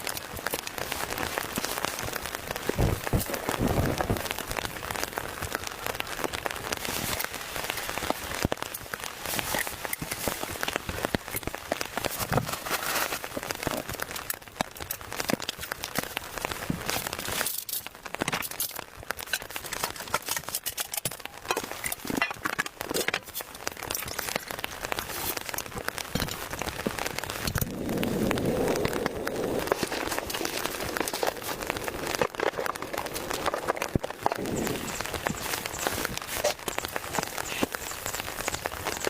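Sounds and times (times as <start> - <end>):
rain drops striking a surface: 0.0 - 39.0.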